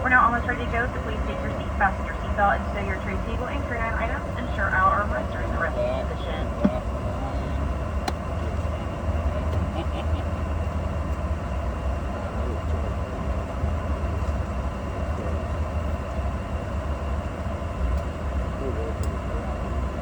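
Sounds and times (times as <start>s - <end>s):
cabin ventilation drone: 0.0s - 20.0s.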